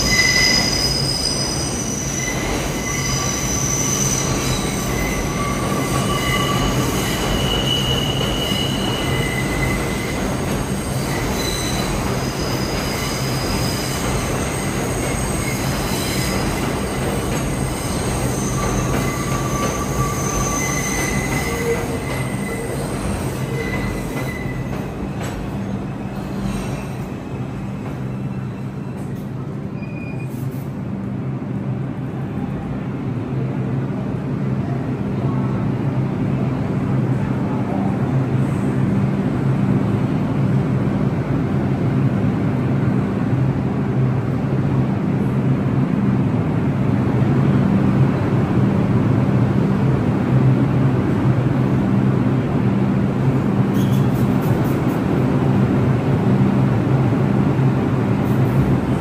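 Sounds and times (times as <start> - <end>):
subway wheels squealing on rails: 0.0 - 31.2, 32.0 - 59.0.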